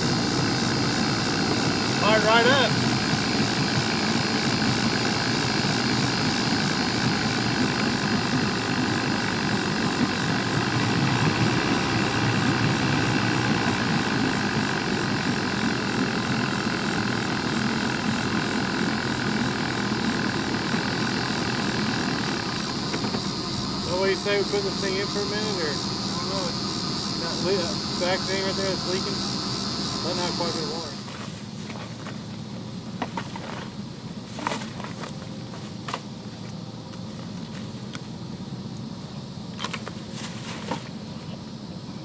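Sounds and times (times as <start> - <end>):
outboard motor idling: 0.0 - 42.0.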